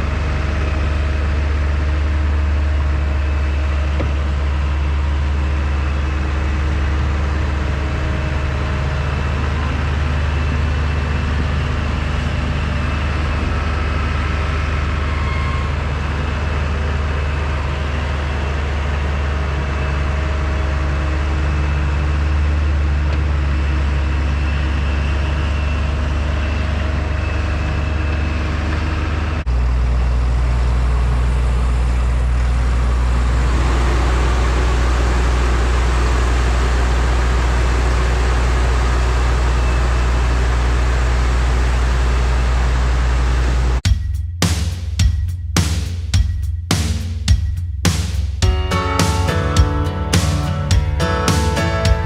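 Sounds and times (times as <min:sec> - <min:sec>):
heavy machinery engine running: 0:00.0 - 0:43.8, 0:48.4 - 0:52.0.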